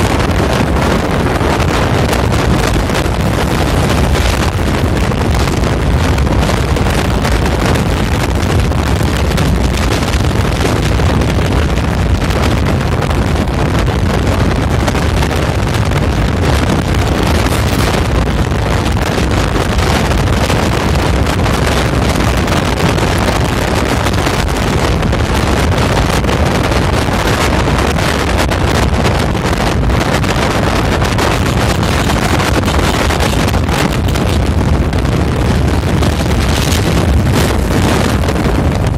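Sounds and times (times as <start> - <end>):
road and traffic noise: 0.0 - 38.9
wind buffeting microphone: 0.0 - 38.9.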